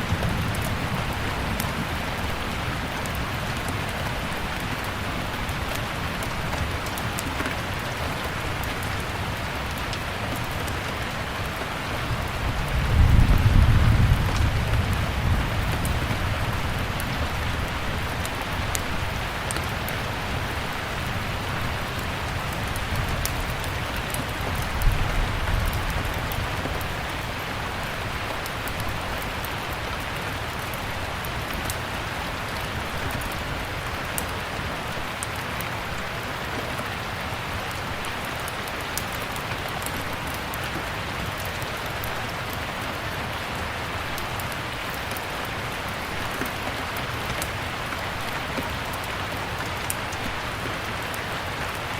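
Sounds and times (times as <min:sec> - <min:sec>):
steady rain: 0:00.0 - 0:51.9
wood fire crackling: 0:00.1 - 0:51.9.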